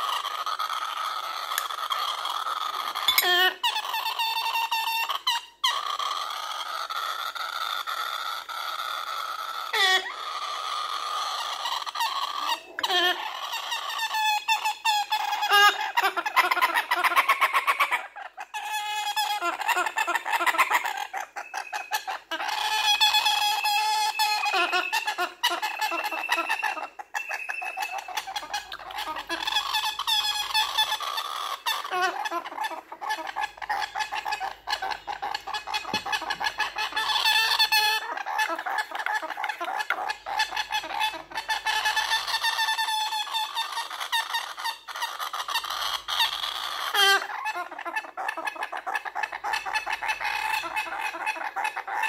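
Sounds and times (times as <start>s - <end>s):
baby cockatoo begging calls: 0.0s - 52.0s.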